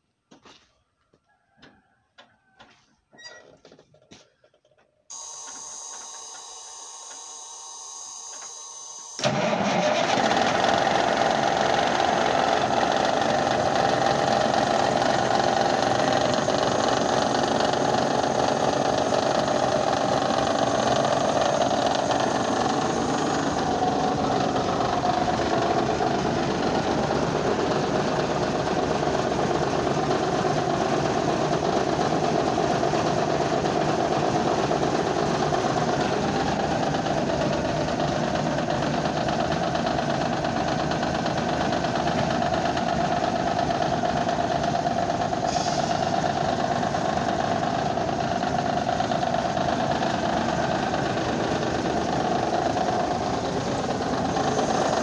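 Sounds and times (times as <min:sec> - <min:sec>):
diesel truck engine idling: 0:09.2 - 0:55.0
engine cranking: 0:09.2 - 0:55.0.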